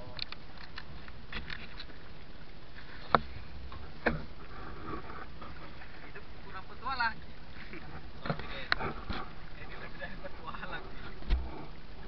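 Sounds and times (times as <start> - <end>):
water: 0.0 - 12.0
wind: 0.0 - 12.0.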